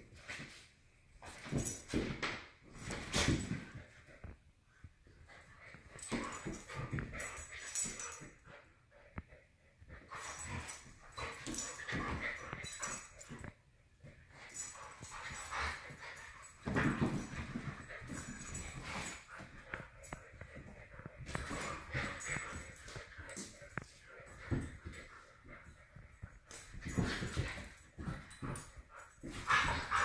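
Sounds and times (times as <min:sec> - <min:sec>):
dogs play-wrestling noises: 0:00.0 - 0:30.0.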